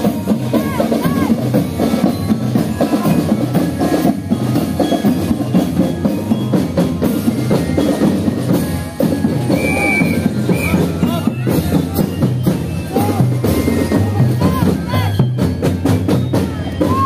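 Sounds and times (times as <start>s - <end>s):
marching drum corps: 0.0s - 17.0s.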